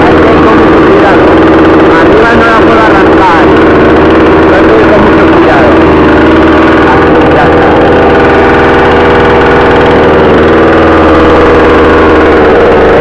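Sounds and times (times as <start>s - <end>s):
chainsaw idling: 0.0s - 13.0s.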